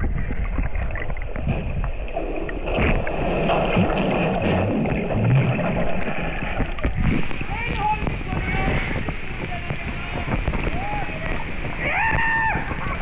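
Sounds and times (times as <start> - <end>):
muffled underwater waterfall rumble: 0.0 - 13.0
underwater bubbling: 0.0 - 13.0.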